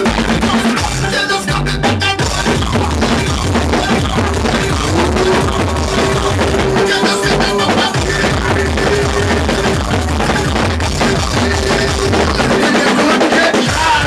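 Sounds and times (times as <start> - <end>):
loud soca music with drum beat: 0.0 - 14.0.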